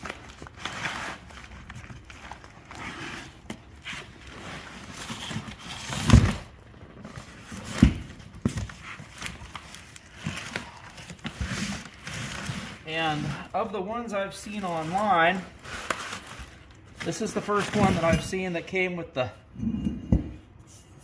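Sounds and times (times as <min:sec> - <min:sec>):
cardboard rustling: 0:00.0 - 0:18.8.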